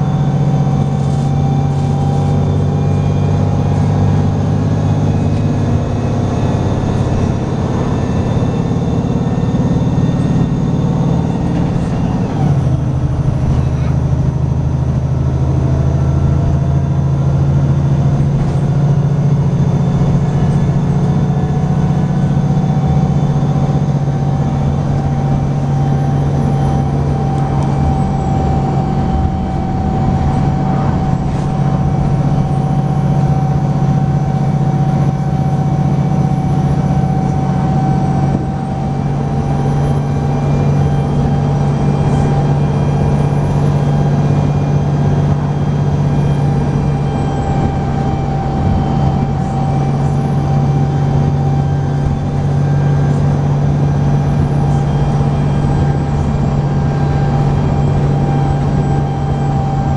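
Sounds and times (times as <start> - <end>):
bus diesel engine running: 0.0 - 59.9
high drivetrain whine: 0.0 - 59.9
road noise: 0.0 - 59.9.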